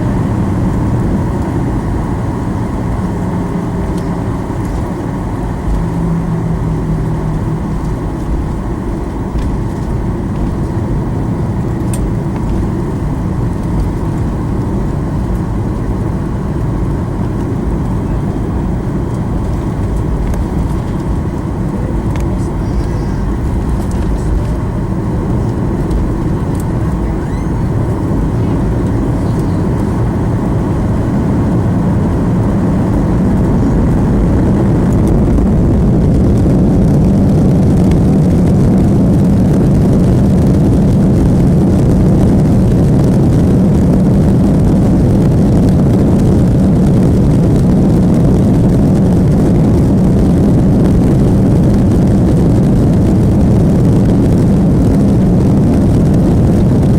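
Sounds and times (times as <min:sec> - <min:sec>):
airliner engines rumbling: 0:00.0 - 0:56.9.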